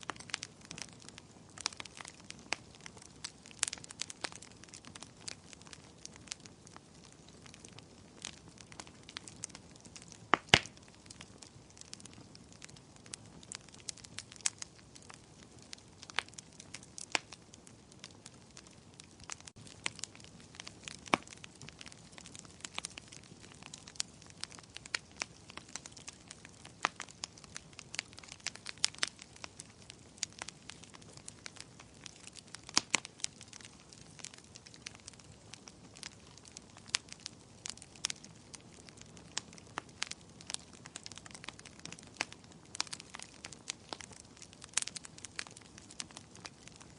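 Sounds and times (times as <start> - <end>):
wood fire crackling: 0.0 - 46.9
sharp fire pops: 7.0 - 18.0, 18.6 - 46.9.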